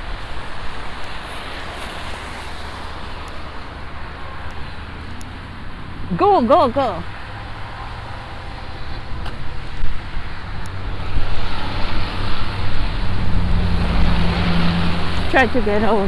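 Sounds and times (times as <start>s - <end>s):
car engine: 0.0s - 16.0s
tyres on slush: 0.0s - 16.0s.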